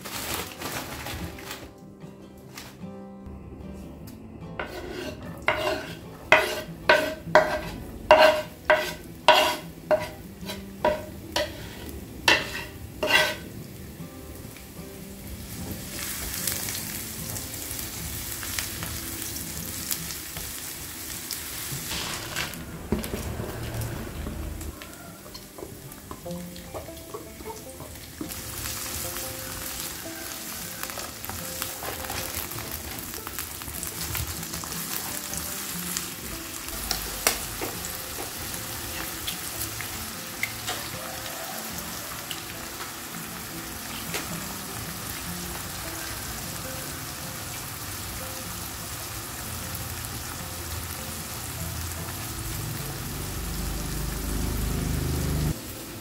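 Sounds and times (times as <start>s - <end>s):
food sizzling in hot oil: 4.6s - 56.0s.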